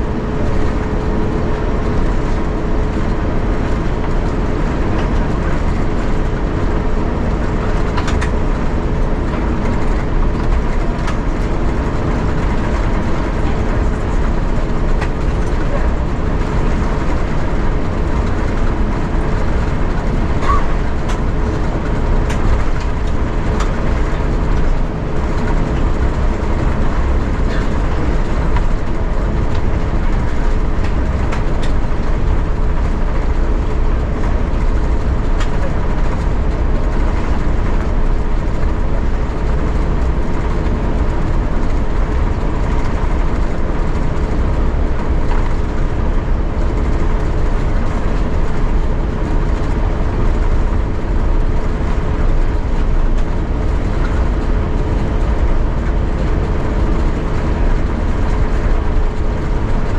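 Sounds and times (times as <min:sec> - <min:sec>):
cabin air system hum: 0:00.0 - 0:59.9
jet engines idling rumble: 0:00.0 - 0:59.9.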